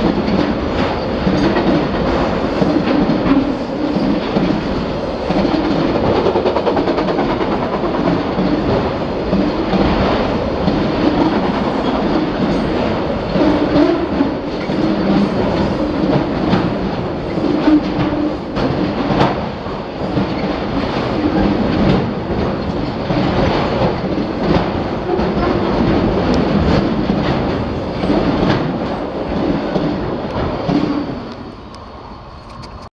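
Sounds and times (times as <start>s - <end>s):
freight cars clattering over rail joints: 0.0s - 31.1s.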